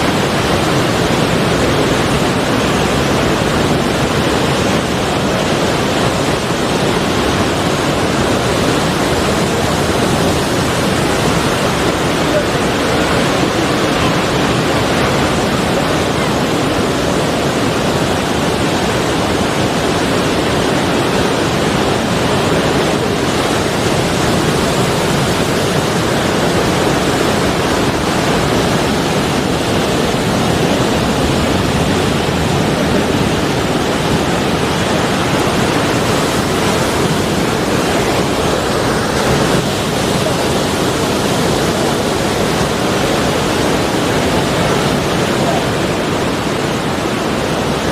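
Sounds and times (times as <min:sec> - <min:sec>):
sea surf roaring: 0:00.0 - 0:47.9.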